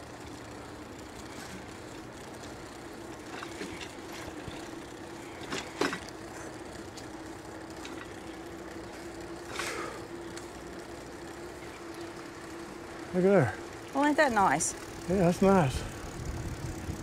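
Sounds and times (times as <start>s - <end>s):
electric bike motor hum: 0.0s - 17.0s.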